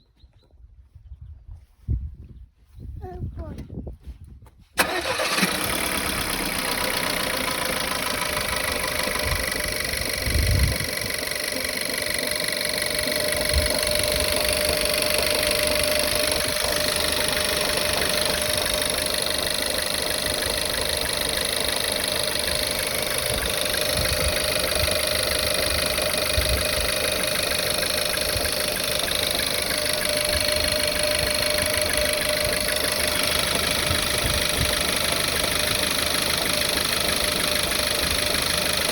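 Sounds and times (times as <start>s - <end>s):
car engine starting and idling: 4.8s - 38.9s.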